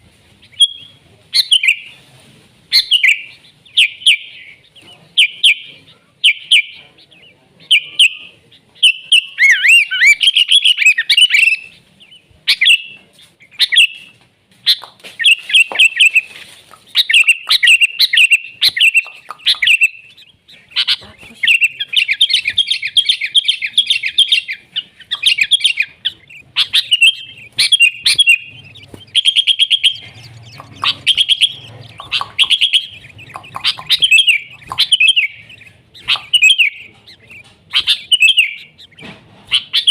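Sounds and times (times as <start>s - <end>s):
bulbul singing: 0.0s - 2.0s, 2.7s - 39.9s.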